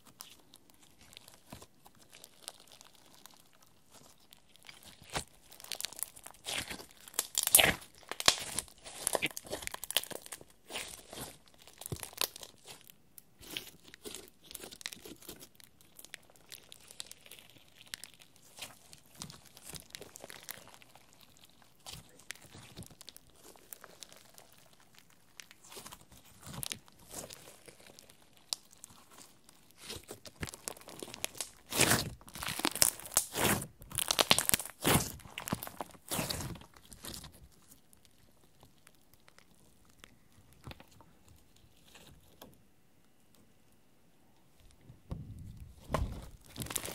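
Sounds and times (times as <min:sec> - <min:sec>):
slime squished by hand: 0:00.0 - 0:42.5, 0:45.0 - 0:46.9.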